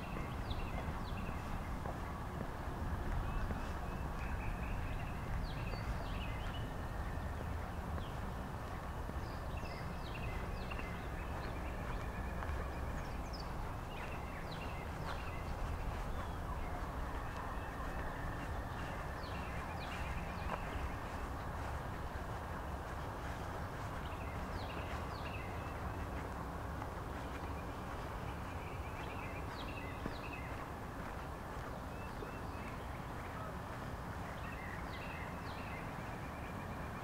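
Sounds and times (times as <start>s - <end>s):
songbirds chirping and singing: 0.0s - 37.0s
steady low rumble: 0.0s - 37.0s.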